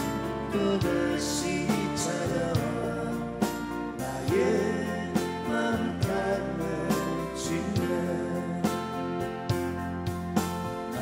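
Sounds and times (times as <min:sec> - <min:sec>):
acoustic guitars: 0:00.0 - 0:11.0
drums: 0:00.0 - 0:11.0
keyboards: 0:00.0 - 0:11.0.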